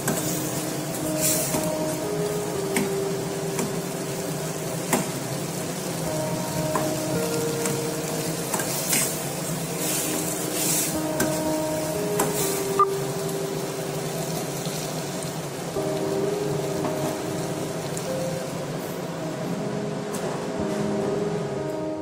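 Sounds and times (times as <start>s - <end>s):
food sizzling: 0.0s - 19.7s.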